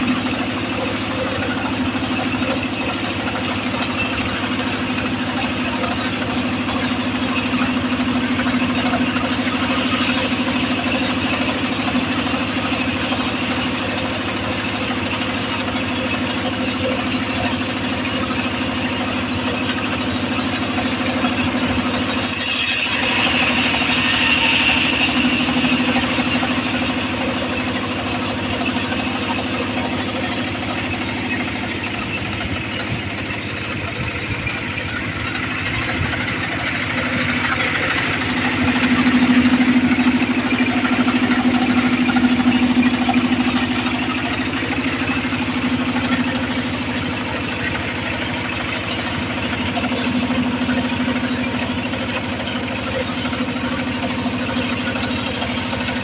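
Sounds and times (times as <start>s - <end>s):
circular sawmill engine hum: 0.0s - 56.0s.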